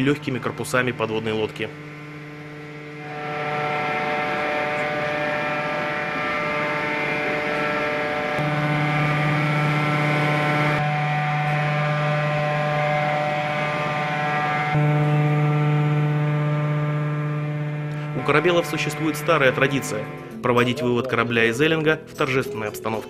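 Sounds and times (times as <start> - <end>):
electric winch hum: 0.0 - 23.0.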